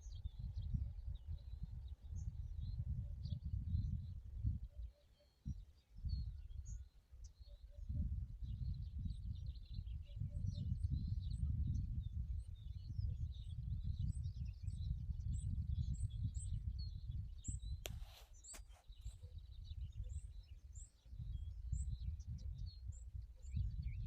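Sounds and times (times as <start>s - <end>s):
small birds chirping: 0.0s - 24.0s
wind rumble on microphone: 0.0s - 24.0s.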